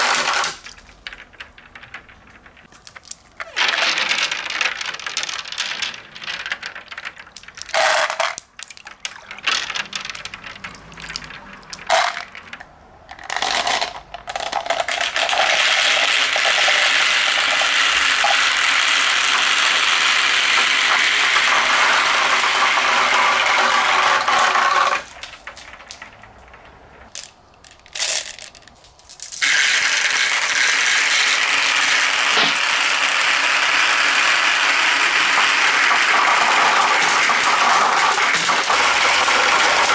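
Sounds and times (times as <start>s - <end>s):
marbles rolling down plastic run: 0.0s - 39.9s.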